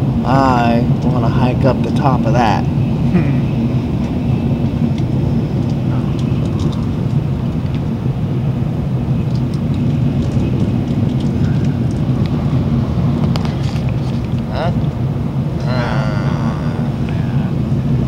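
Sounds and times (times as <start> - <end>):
low hum: 0.0 - 18.0
train cabin running noise: 0.0 - 18.0.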